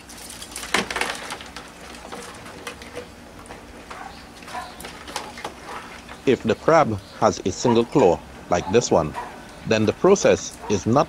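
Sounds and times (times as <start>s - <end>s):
crabs clicking and scraping: 0.0s - 11.0s.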